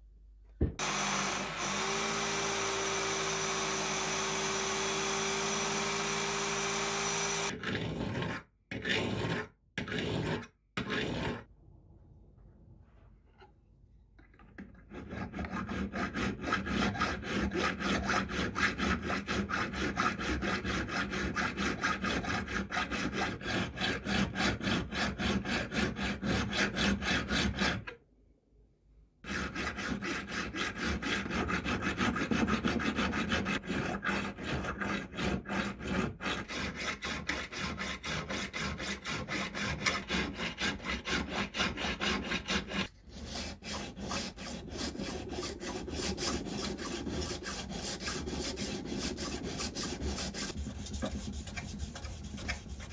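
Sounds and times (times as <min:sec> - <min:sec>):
hand file rasping on steel: 0:00.8 - 0:11.5, 0:14.8 - 0:28.0, 0:29.2 - 0:52.9.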